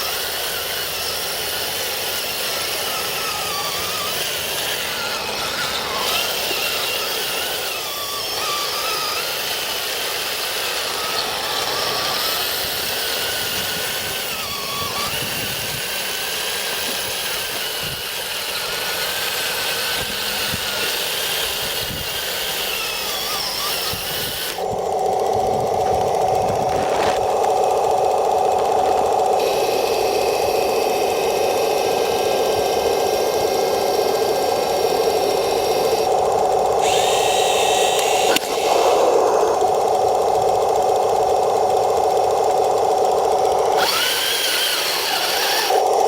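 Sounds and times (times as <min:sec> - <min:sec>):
electric motors whining: 0:00.0 - 0:46.0
mechanical track rattle: 0:00.0 - 0:46.0.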